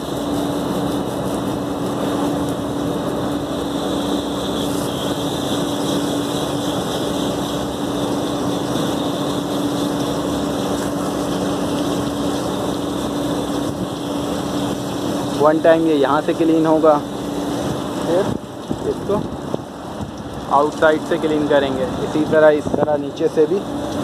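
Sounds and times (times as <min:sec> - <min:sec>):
hose water spraying on metal coil: 0:00.0 - 0:24.0
steady hum: 0:00.0 - 0:24.0.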